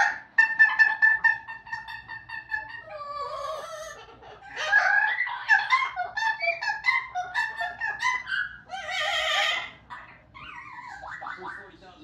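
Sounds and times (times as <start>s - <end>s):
parrots squawking and whistling: 0.0s - 12.0s.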